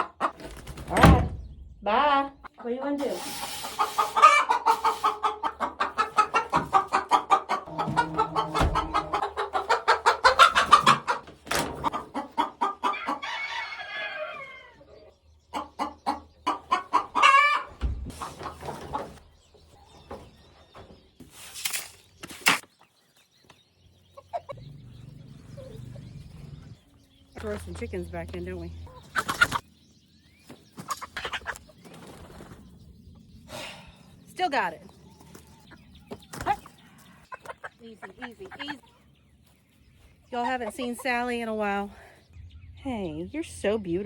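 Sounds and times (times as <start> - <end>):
chickens clucking and cackling: 0.0 - 21.4, 22.5 - 44.0.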